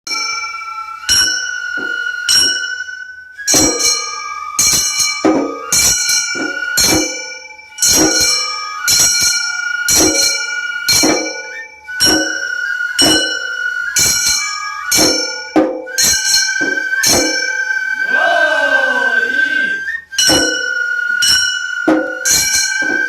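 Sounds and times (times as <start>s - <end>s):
bamboo flute melody: 0.1s - 23.0s.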